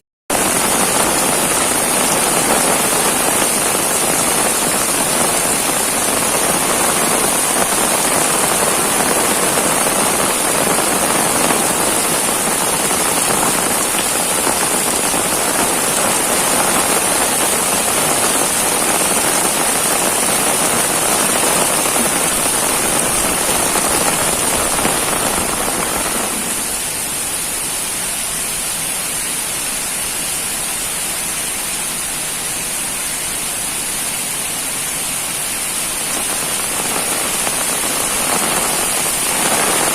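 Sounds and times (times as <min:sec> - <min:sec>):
heavy rain pouring: 0:00.3 - 0:39.9.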